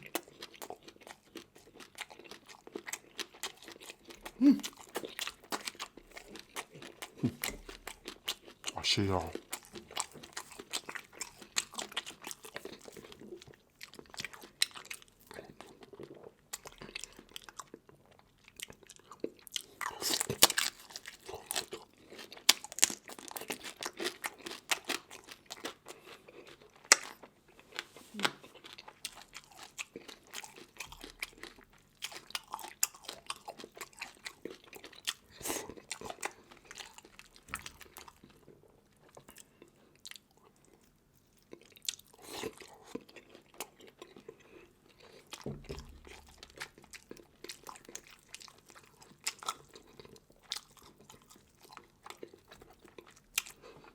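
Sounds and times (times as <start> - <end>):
chewing and crunching food: 0.0 - 53.9.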